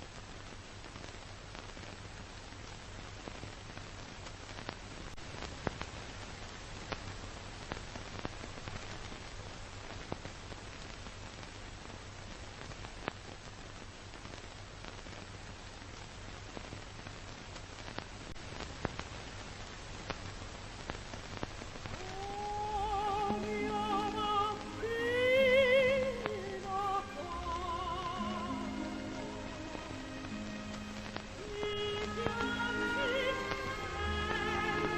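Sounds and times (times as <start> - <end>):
crackling clicks and pops: 0.0 - 34.9
record surface hiss: 0.0 - 34.9.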